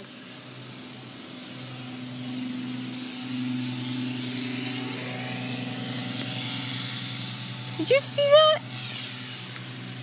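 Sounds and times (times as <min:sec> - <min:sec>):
motor humming: 0:00.0 - 0:10.0.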